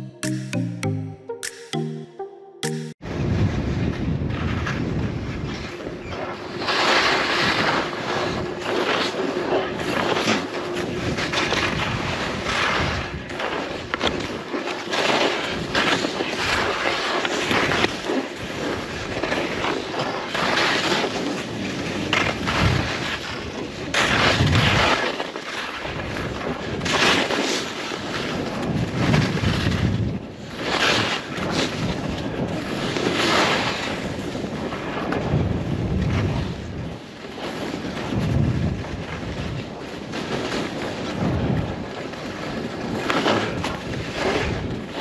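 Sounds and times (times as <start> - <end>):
skis scraping on packed snow: 5.5 - 35.3, 36.1 - 45.0.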